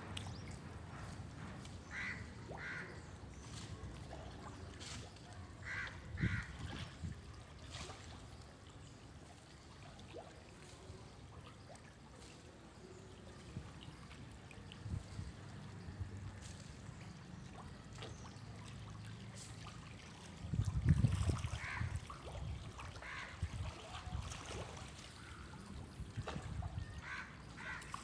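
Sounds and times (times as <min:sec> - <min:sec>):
fish splashing in shallow water: 0:00.0 - 0:28.0.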